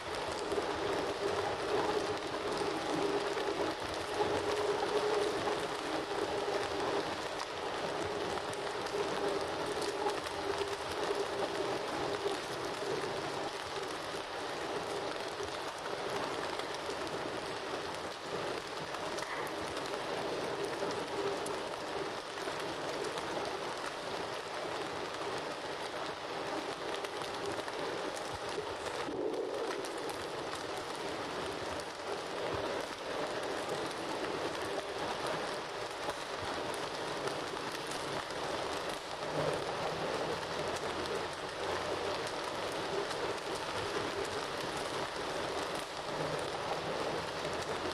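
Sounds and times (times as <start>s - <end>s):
bonfire crackling: 0.0s - 47.9s.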